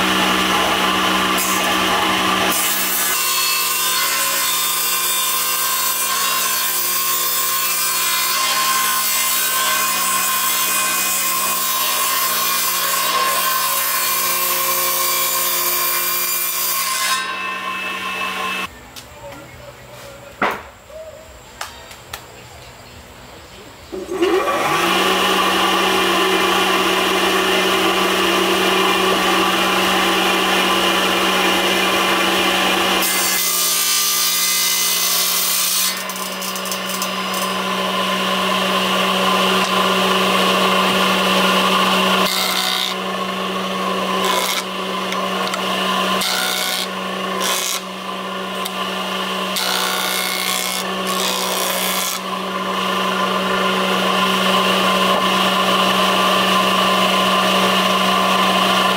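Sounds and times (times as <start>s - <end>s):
power tool cutting wood: 0.0s - 18.7s, 24.0s - 58.9s.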